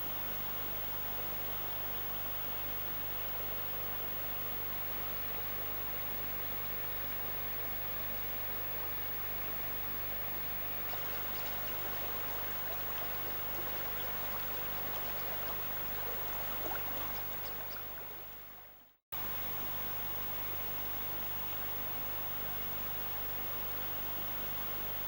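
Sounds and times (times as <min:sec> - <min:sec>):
videotape hum and hiss: 0:00.0 - 0:25.0.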